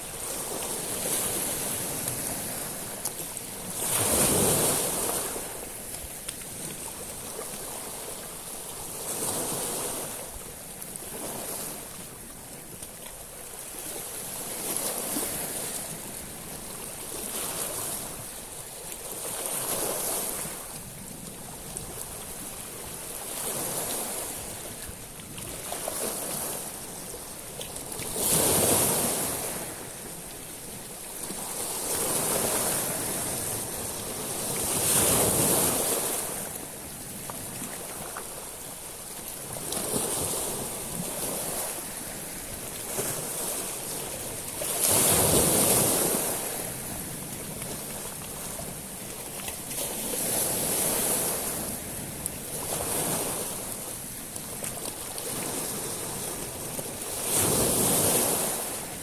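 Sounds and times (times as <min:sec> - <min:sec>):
waves washing over small stones: 0:00.0 - 0:59.0.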